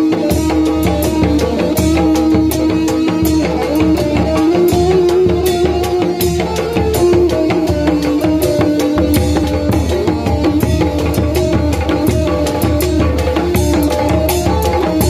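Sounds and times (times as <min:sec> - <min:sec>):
fast hand drum beat: 0:00.0 - 0:15.0.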